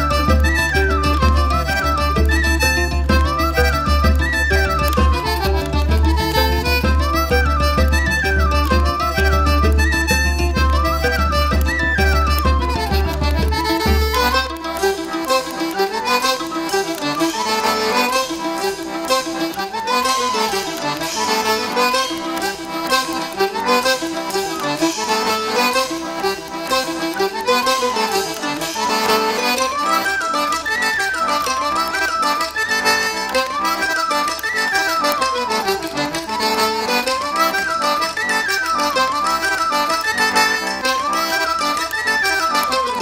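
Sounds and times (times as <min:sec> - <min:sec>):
accordion tune: 0:00.0 - 0:43.0.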